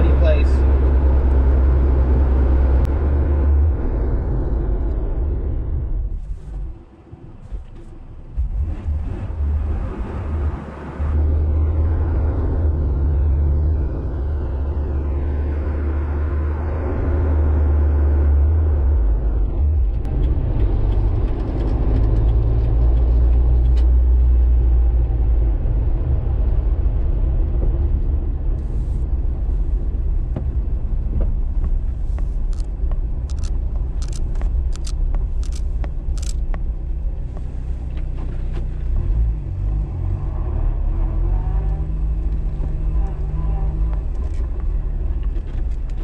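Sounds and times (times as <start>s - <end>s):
engine and road rumble: 0.0s - 46.0s.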